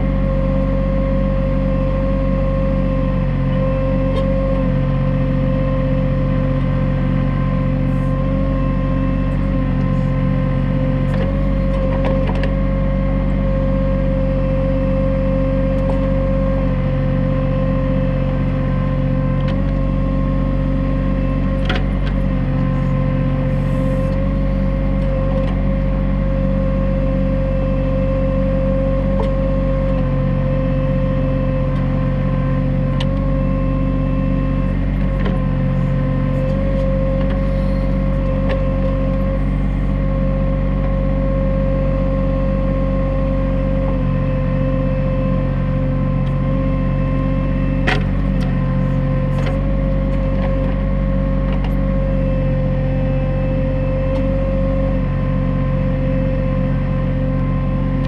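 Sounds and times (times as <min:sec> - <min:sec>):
constant high whine: 0:00.0 - 0:58.0
tractor diesel engine running: 0:00.0 - 0:58.0.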